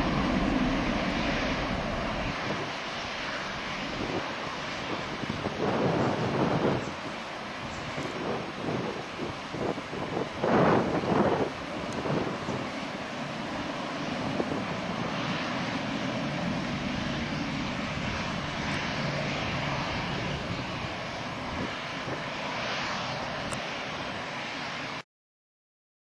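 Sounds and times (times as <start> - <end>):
jet engines climbing: 0.0 - 25.0.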